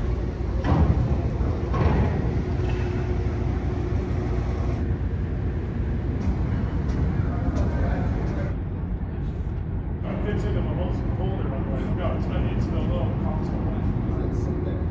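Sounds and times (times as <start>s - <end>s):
low rumble aboard ferry: 0.0s - 14.9s.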